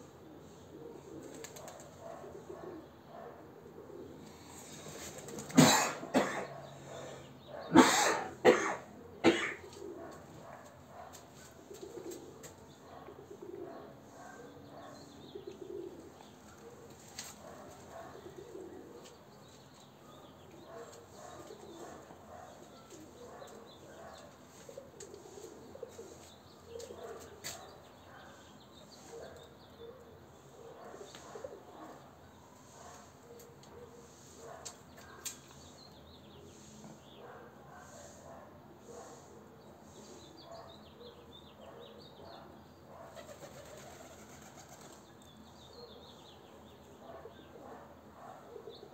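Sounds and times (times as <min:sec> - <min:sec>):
pigeons cooing: 0:00.0 - 0:45.1, 0:45.7 - 0:48.9.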